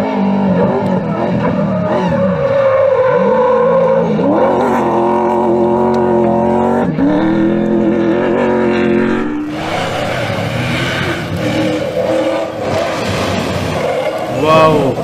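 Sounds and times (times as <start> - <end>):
pickup engine revving hard: 0.0 - 15.0.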